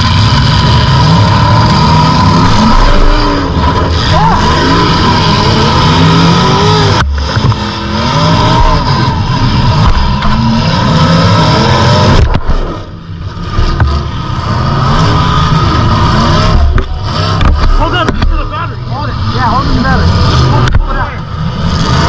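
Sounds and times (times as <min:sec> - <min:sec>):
car engines revving loudly: 0:00.0 - 0:22.0.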